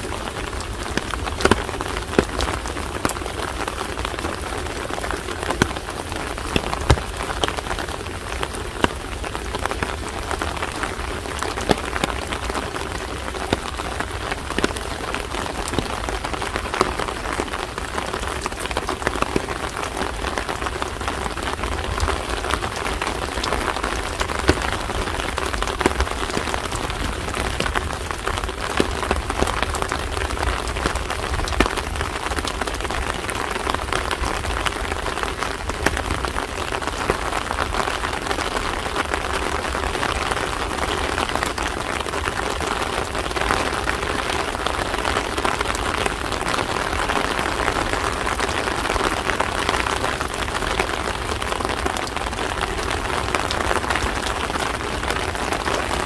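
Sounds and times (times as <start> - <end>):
rain patter: 0.0 - 56.0
raindrops ticking close by: 0.0 - 56.0.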